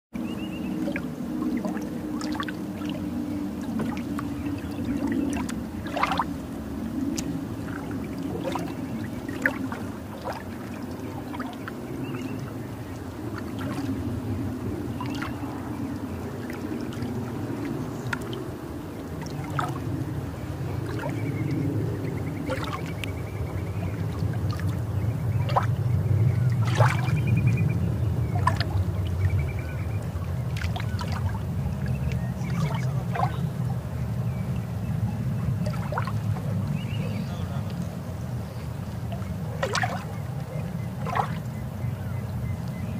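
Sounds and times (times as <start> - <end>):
water trickling: 0.2 - 34.9, 35.5 - 41.8.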